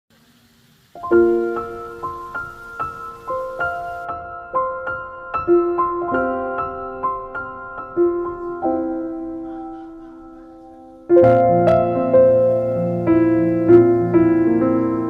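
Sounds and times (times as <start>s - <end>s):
gentle piano music: 0.9s - 15.0s.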